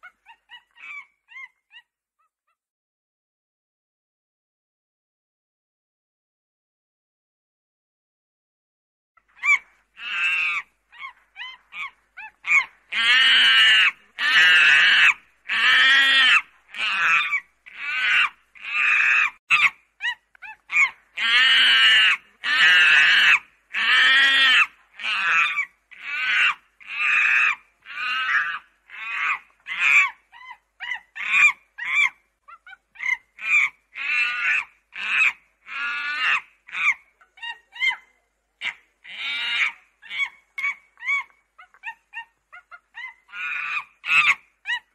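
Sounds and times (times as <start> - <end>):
primate calling: 0.0 - 2.3, 9.2 - 44.9.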